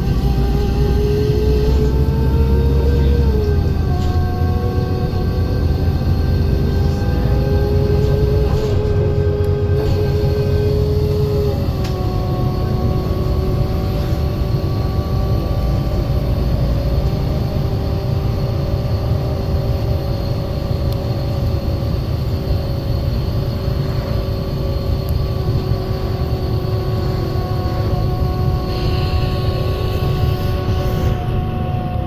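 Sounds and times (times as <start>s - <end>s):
bus engine road rumble: 0.0s - 32.0s
drivetrain whine: 0.0s - 32.0s.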